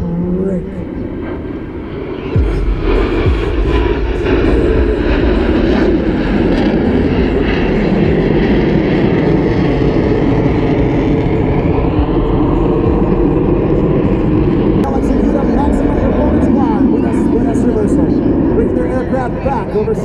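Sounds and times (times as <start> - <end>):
jets flying overhead: 0.0 - 20.0.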